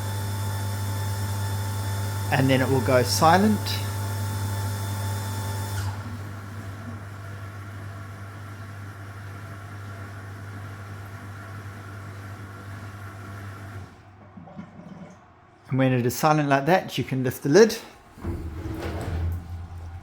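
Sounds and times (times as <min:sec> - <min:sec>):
dishwasher motor hum: 0:00.0 - 0:15.2, 0:17.9 - 0:20.0.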